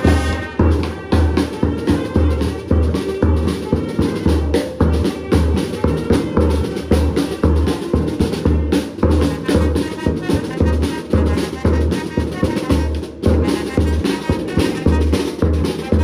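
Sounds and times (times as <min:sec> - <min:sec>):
bass drum beat: 0:00.0 - 0:16.0
brass band playing: 0:00.0 - 0:16.0
side drum: 0:00.0 - 0:16.0.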